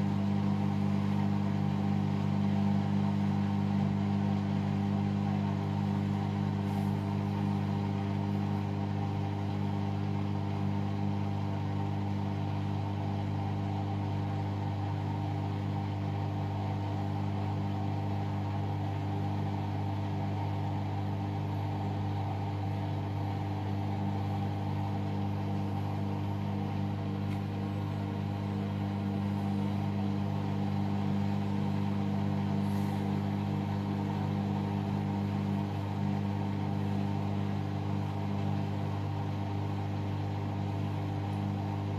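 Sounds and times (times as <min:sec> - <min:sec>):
washing machine motor hum: 0:00.0 - 0:41.9.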